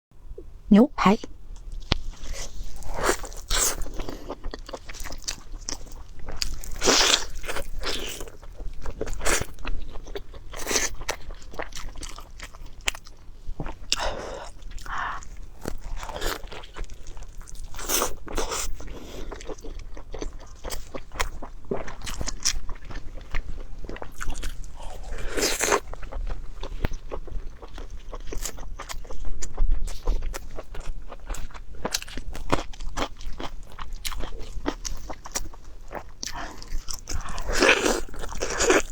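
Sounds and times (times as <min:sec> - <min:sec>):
person chewing: 0:01.2 - 0:38.9.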